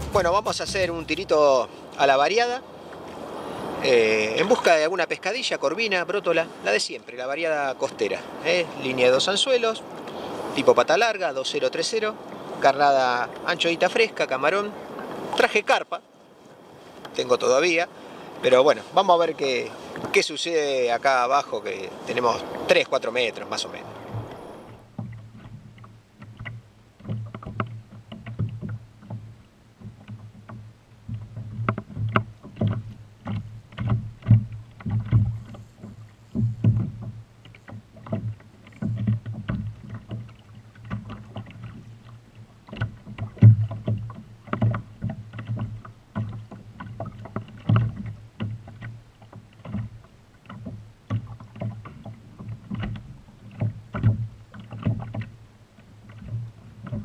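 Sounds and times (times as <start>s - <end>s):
waves slapping against kayak hull: 0.0s - 57.0s.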